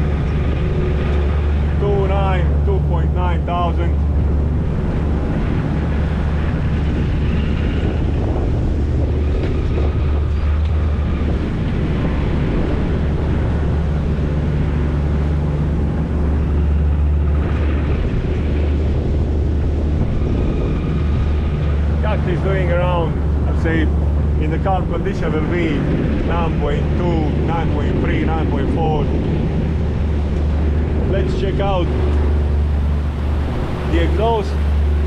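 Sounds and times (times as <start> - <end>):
boat diesel engine humming: 0.0 - 35.0.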